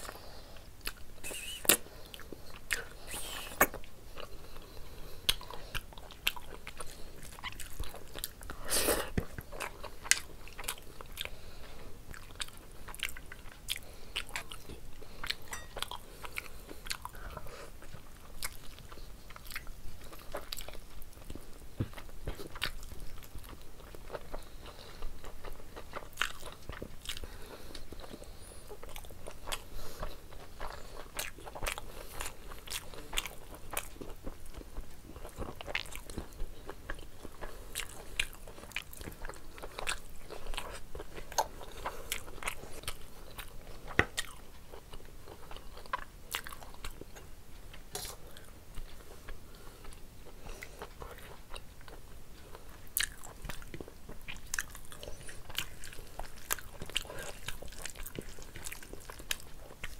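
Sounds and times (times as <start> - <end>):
wet chewing with mouth smacks: 0.8 - 59.9.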